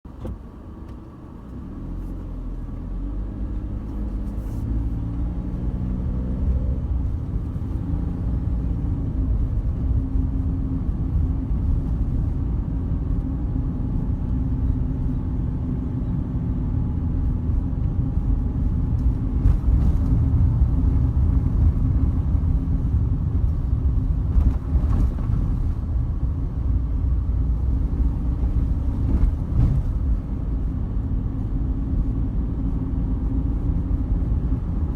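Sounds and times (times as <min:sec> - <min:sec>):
road noise: 0:00.0 - 0:34.9
car engine accelerating: 0:00.2 - 0:34.9.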